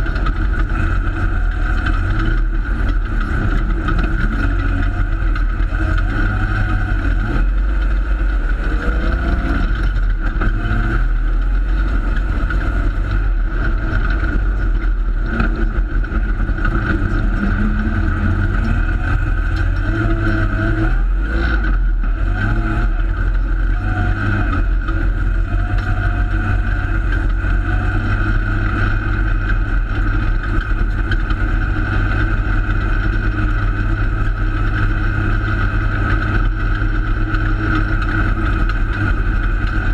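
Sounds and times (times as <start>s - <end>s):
race car engine revving: 0.0s - 39.9s
wind and tyre noise: 0.0s - 39.9s.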